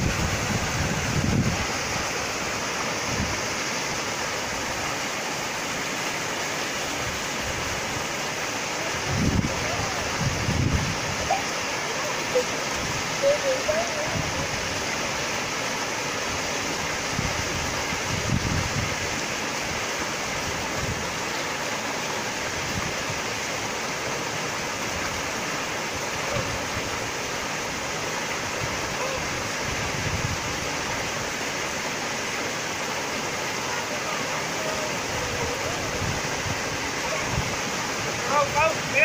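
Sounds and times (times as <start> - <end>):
waterfall splashing: 0.0 - 39.0.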